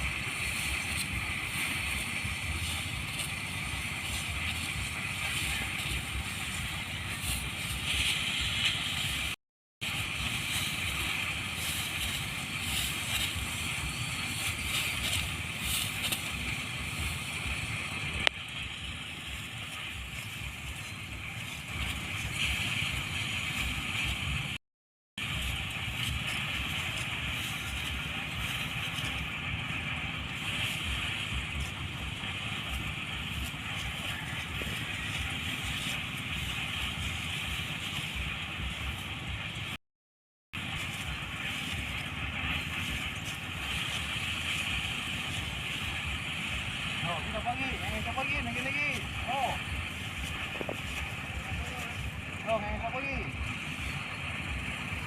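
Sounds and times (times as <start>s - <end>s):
engine-driven thresher running: 0.0s - 24.6s, 25.2s - 39.8s, 40.6s - 55.0s.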